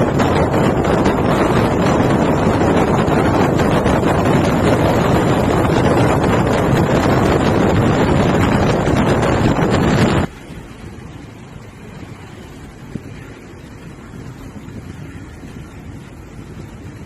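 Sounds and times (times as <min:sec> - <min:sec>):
bus road noise: 0:00.0 - 0:17.0
wind buffeting microphone: 0:00.0 - 0:17.0.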